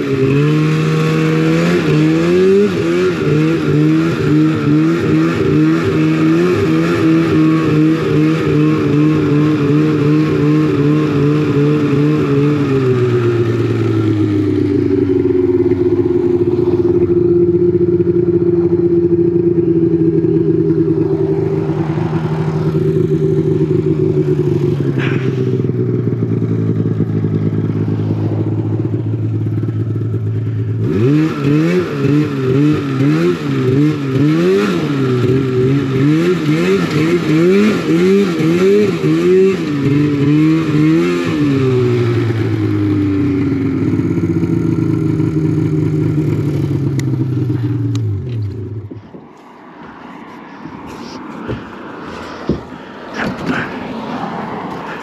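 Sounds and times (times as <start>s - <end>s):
snowmobile engine revving: 0.0s - 48.8s.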